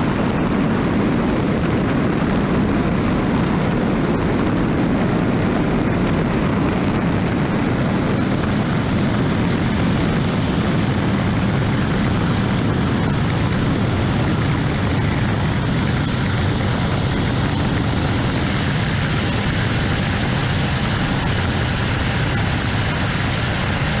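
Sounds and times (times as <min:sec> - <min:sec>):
speedboat engine roaring: 0:00.0 - 0:24.0.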